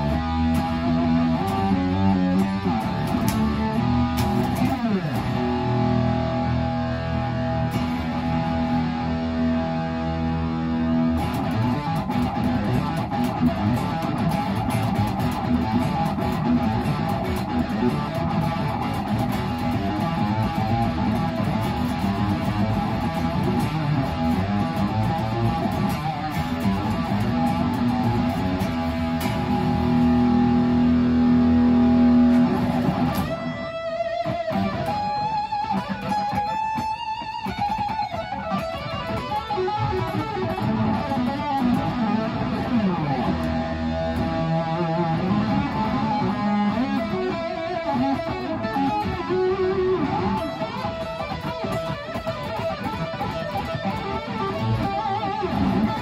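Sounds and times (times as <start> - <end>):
electric guitar playing: 0.0 - 56.0.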